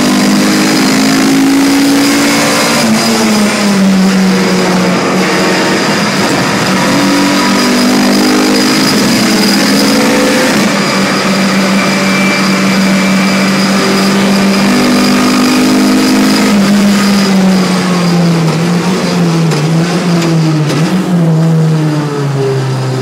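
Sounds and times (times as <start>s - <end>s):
car engine from inside cabin: 0.0s - 23.0s.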